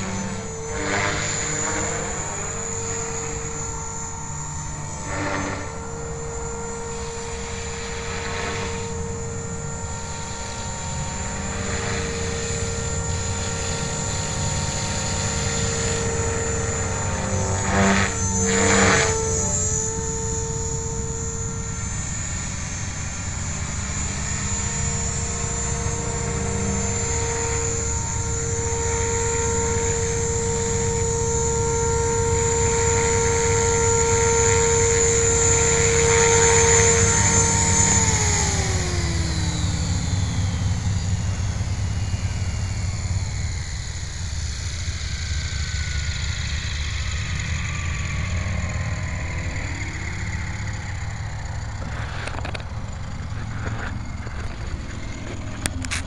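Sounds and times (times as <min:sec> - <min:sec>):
rc helicopter motor whining: 0:00.0 - 0:56.0.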